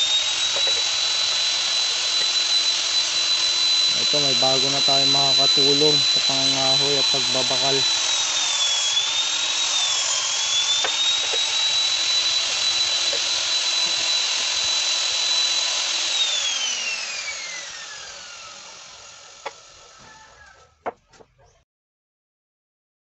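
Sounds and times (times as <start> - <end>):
drill whining: 0.0 - 21.0.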